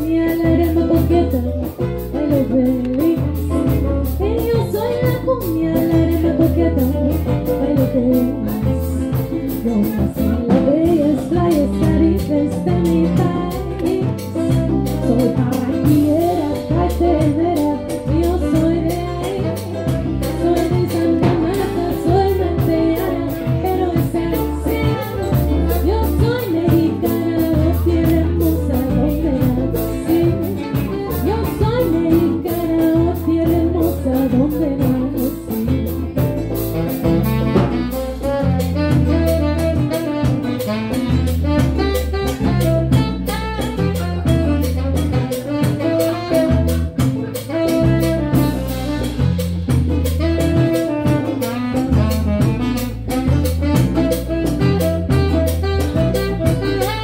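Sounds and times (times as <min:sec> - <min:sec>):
bass line: 0:00.0 - 0:57.0
saxophone melody: 0:00.0 - 0:57.0
drum kit cymbal beat: 0:00.3 - 0:57.0.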